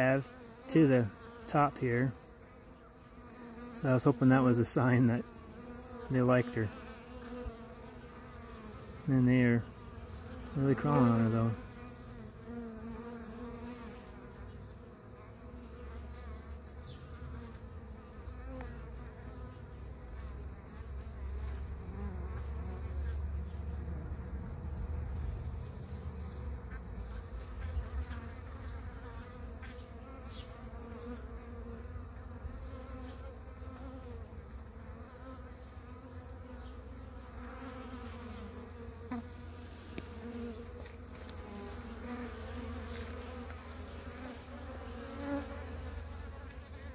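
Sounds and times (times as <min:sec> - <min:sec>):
bees buzzing: 0:00.0 - 0:46.9.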